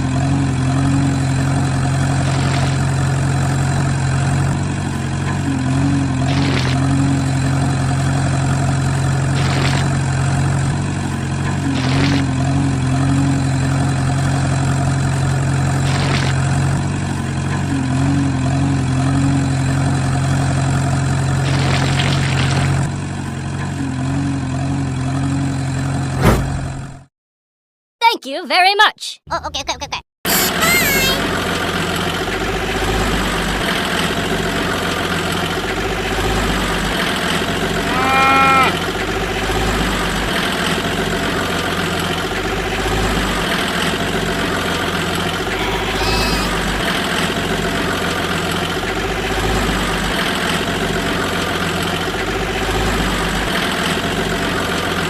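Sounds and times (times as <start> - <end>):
engine idling drone: 0.0 - 25.0, 31.2 - 55.0.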